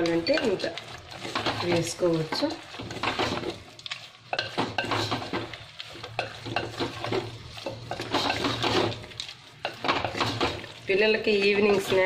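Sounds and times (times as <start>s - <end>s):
spoon scraping clay pot: 0.0s - 12.0s.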